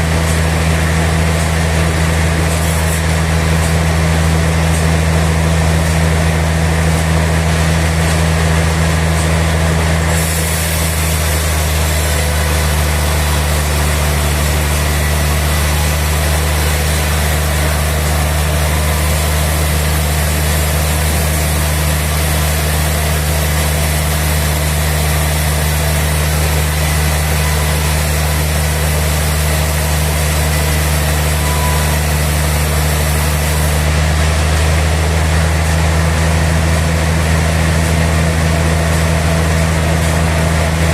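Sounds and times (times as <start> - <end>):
sawmill machinery humming: 0.0 - 40.9.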